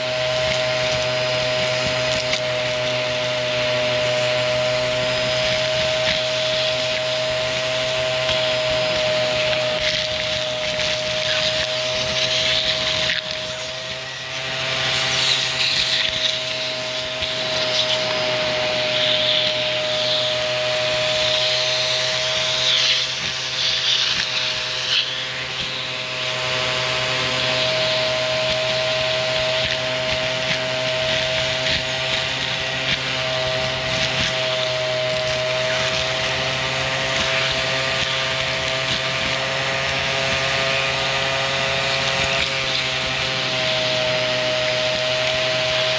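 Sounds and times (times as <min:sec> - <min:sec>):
vacuum cleaner motor whining: 0:00.0 - 0:45.9.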